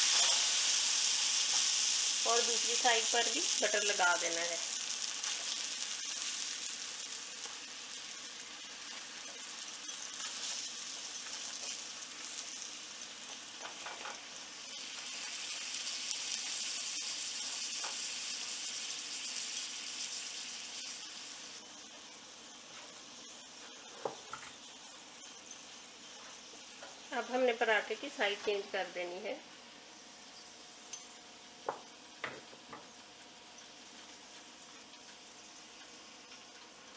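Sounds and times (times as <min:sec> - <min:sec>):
butter sizzling on hot griddle: 0:00.0 - 0:36.9.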